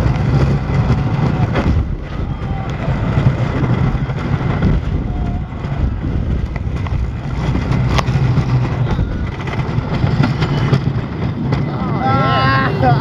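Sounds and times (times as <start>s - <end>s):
roller coaster rumbling on wooden track: 0.0s - 13.0s.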